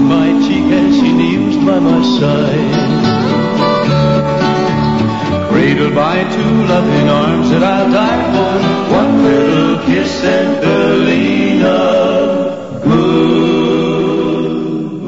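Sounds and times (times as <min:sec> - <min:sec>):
country ballad singing with guitar: 0:00.0 - 0:14.4.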